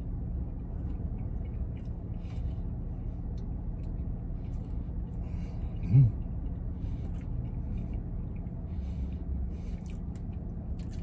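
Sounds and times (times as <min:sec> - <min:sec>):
low vehicle cabin hum: 0:00.0 - 0:11.0
man chewing: 0:00.0 - 0:11.0.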